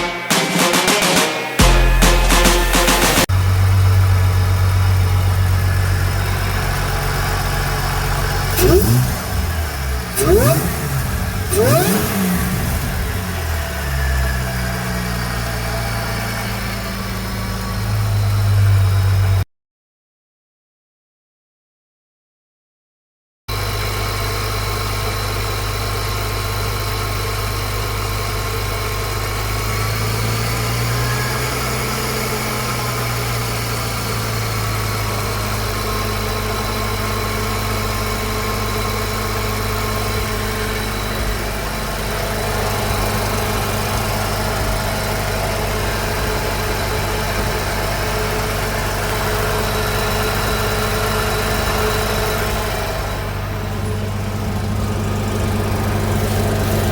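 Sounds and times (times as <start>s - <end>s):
engine idling: 1.6s - 19.4s, 23.5s - 56.9s.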